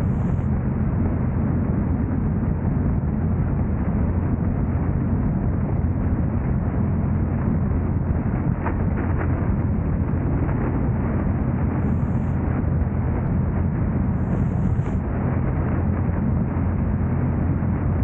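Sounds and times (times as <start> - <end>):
car engine drone: 0.0 - 18.0
road and wind noise: 0.0 - 18.0.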